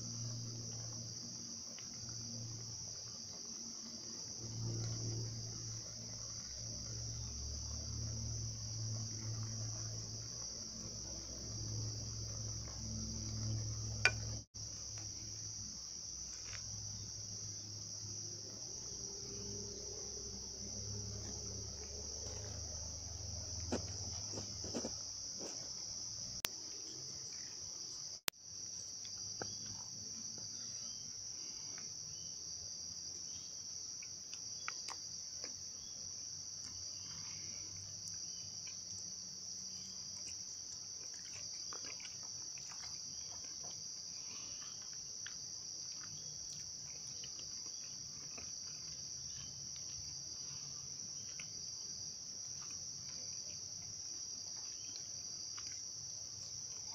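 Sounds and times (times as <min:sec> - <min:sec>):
insect chorus trilling: 0:00.0 - 0:56.9.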